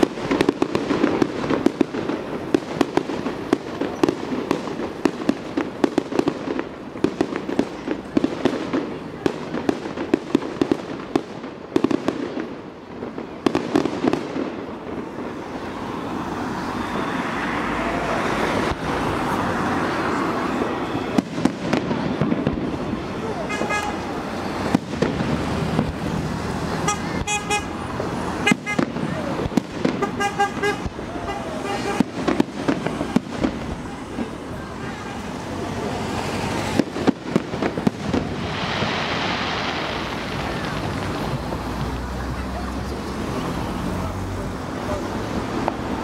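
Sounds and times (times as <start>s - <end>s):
fireworks crackling and popping: 0.0s - 46.0s.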